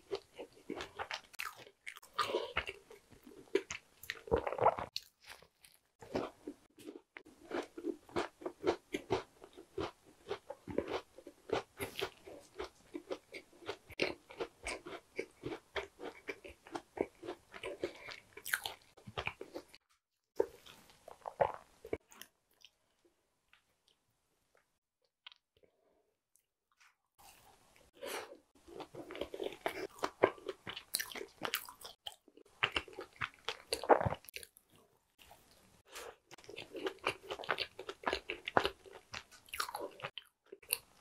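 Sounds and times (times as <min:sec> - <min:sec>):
chewing crisp pastry: 0:00.0 - 0:19.8, 0:26.7 - 0:41.0.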